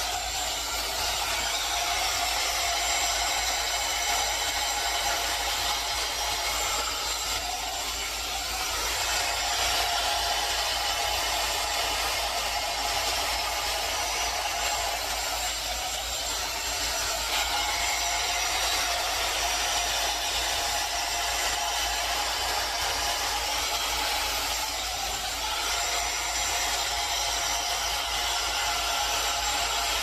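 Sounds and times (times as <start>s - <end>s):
hair dryer brush fan blowing: 0.0s - 30.0s.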